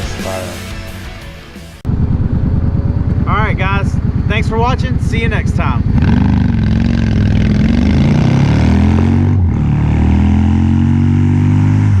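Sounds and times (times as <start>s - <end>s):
vehicle engine revving: 1.9s - 12.0s.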